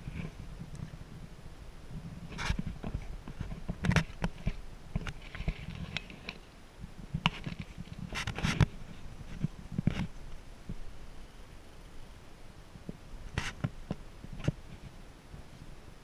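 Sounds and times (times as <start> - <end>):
scrapes and rustles on microphone: 0.0 - 11.0, 12.8 - 15.8.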